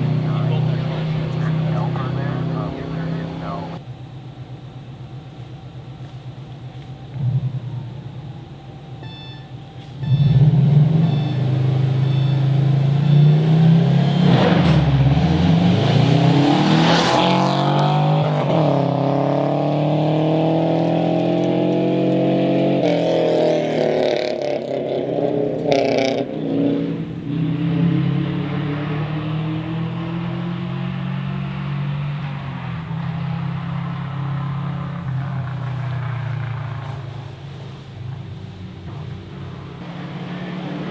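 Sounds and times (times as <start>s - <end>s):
rally car engine revving: 0.0s - 3.8s, 9.1s - 40.9s.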